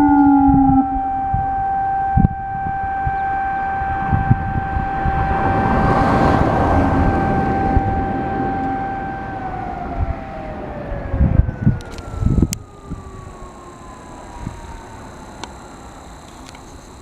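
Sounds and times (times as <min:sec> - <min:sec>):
siren long steady tone: 0:00.0 - 0:17.0
wind buffeting microphone: 0:00.0 - 0:17.0
rushing noise: 0:02.2 - 0:17.0.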